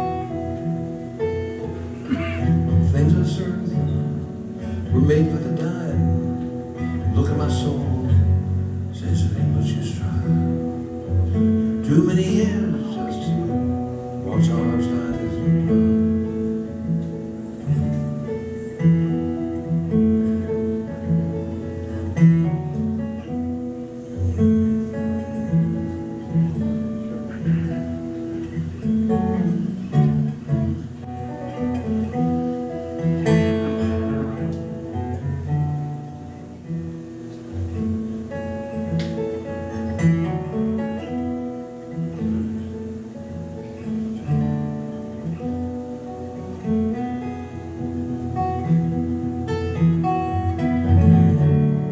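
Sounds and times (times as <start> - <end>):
acoustic guitar playing: 0.0 - 51.9.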